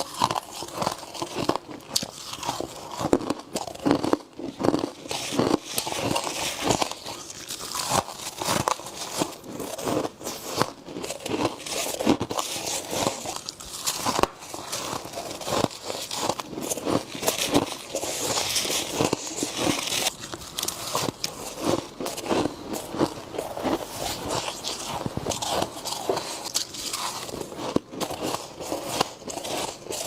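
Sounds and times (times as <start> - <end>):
person chewing crunchy frost: 0.0 - 30.0.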